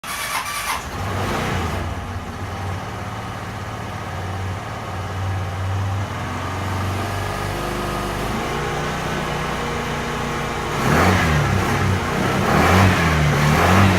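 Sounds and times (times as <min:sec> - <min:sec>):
scooter engine starting and idling: 0:00.0 - 0:13.9.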